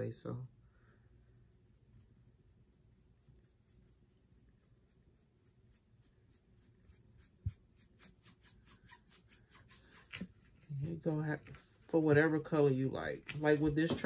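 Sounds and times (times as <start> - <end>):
sponge brush scratching metal tray: 1.8 - 14.0.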